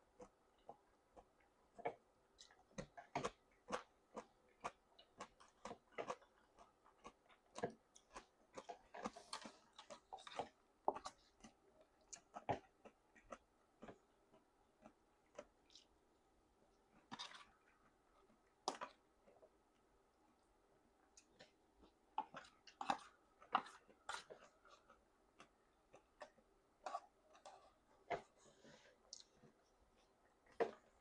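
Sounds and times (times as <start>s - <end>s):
wet chewing of noodles: 0.0s - 31.0s.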